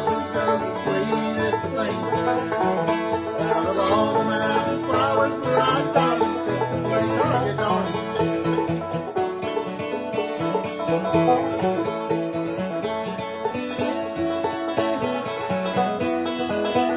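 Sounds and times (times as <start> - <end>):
bluegrass banjo music: 0.0 - 16.9.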